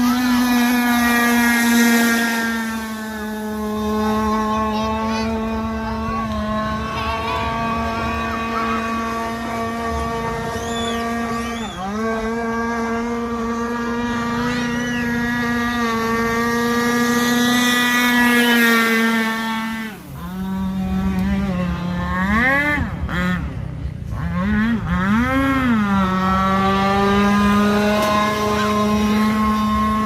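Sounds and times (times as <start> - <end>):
model boat engine running: 0.0 - 30.0.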